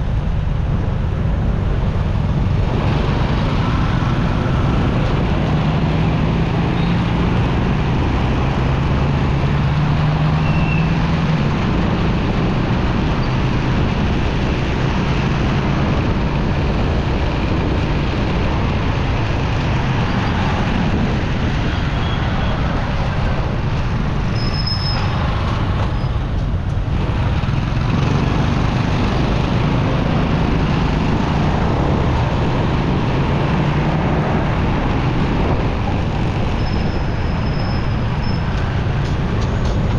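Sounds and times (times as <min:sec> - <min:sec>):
traffic: 0:00.0 - 0:39.9
wind and road noise: 0:00.0 - 0:39.9.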